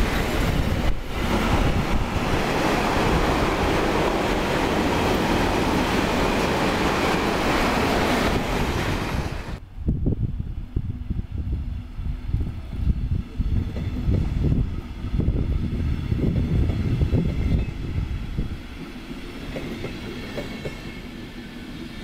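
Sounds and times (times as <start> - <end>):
freight train wheels rushing on rail: 0.0 - 22.0
train coaches rumbling past: 0.0 - 22.0.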